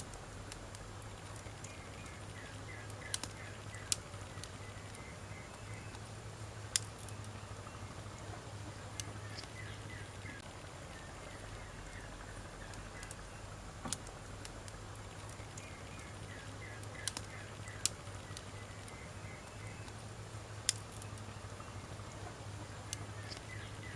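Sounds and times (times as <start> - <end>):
fire pops: 0.0 - 7.4, 8.2 - 23.9
campfire crackling: 0.0 - 23.9.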